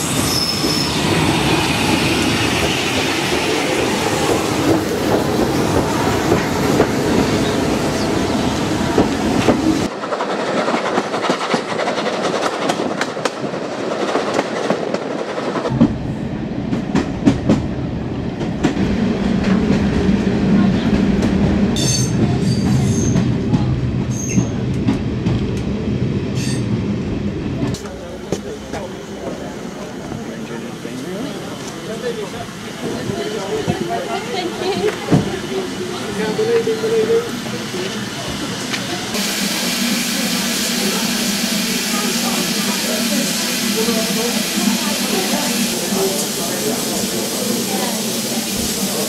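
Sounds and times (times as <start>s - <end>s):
steam locomotive passing: 0.0s - 49.0s.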